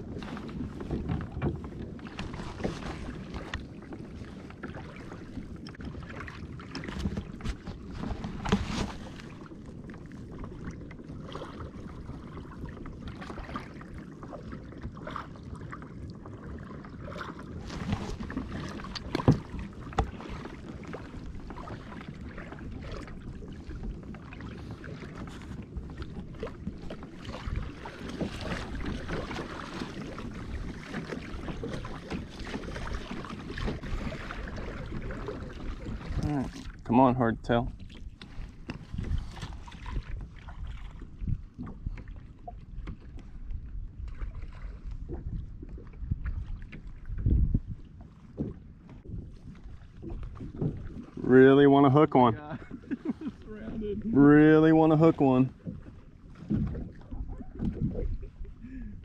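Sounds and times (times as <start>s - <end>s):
water lapping against kayak hull: 0.0s - 59.0s.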